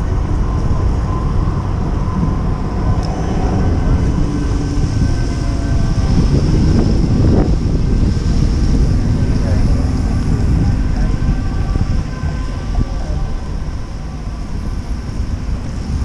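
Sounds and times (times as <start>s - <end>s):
traffic rumble: 0.0s - 16.0s
wind noise: 0.0s - 16.0s.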